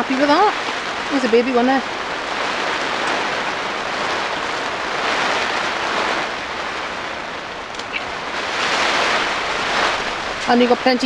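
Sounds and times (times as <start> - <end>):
rain drumming on plastic sheeting: 0.0 - 11.0.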